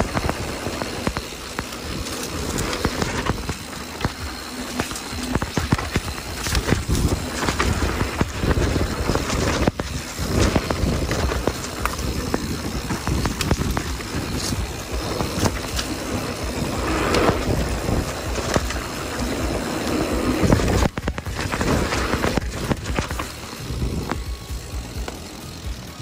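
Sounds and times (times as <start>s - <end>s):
bike clicks and rattles: 0.0s - 26.0s
tyres rumbling on dirt trail: 0.0s - 26.0s.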